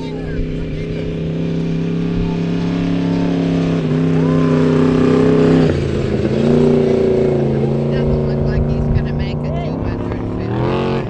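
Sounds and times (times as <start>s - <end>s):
race truck engine accelerating: 0.0s - 11.0s.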